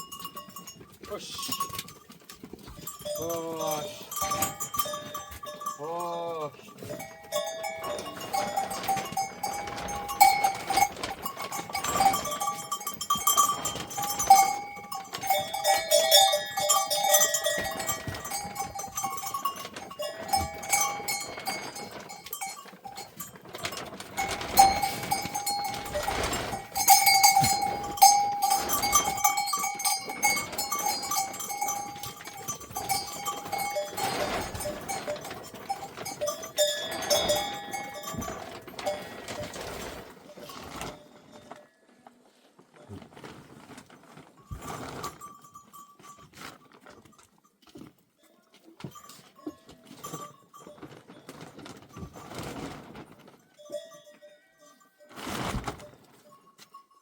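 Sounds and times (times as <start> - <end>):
livestock bells clanking: 0.0 - 41.6, 44.4 - 57.0.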